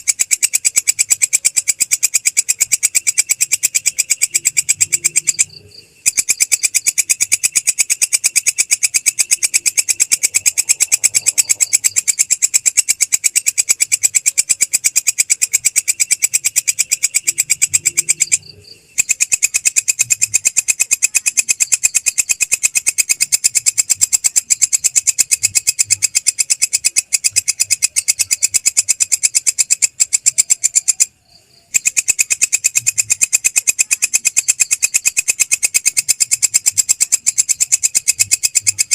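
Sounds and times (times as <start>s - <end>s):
insect stridulating in pulsed trill: 0.0s - 38.9s.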